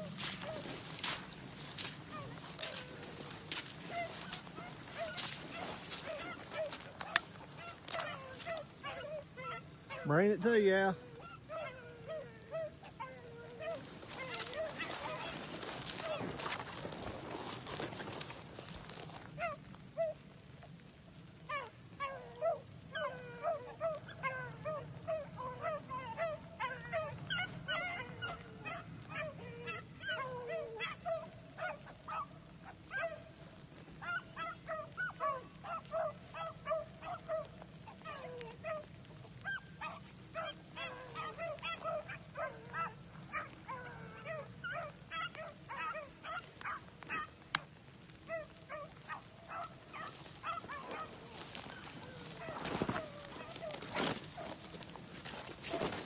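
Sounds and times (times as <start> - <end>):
hounds baying: 0.0 - 20.7, 21.4 - 56.0.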